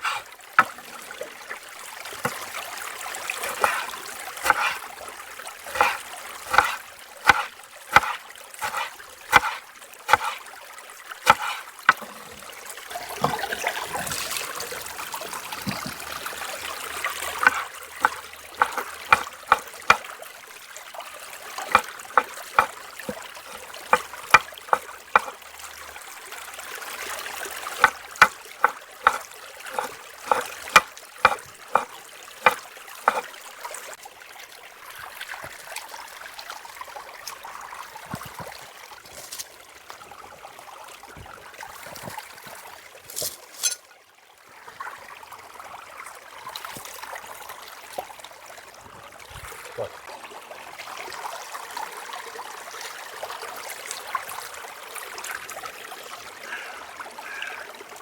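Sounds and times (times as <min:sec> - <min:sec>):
flowing river: 0:00.0 - 0:58.0.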